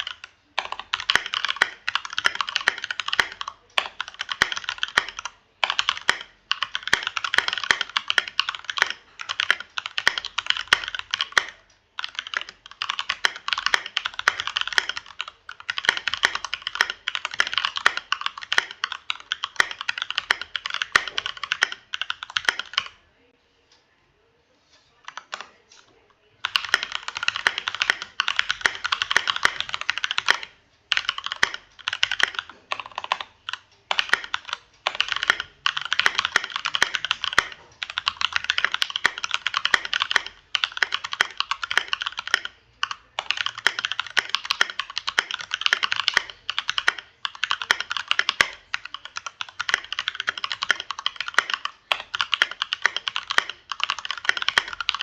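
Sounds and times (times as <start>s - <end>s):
mechanical keyboard typing: 0.0s - 23.0s, 25.0s - 55.0s.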